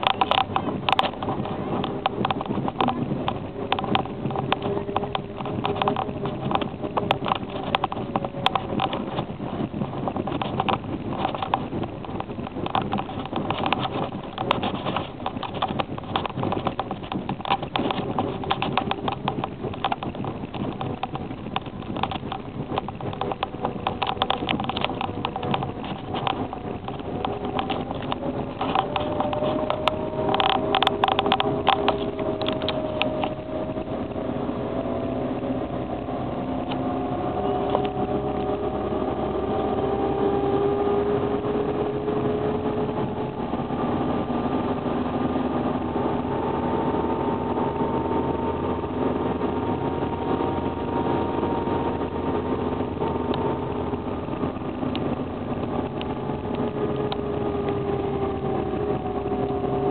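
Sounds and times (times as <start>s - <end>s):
irregular clicking and rattling: 0.0s - 47.0s, 48.0s - 59.9s
car engine running: 0.0s - 59.9s.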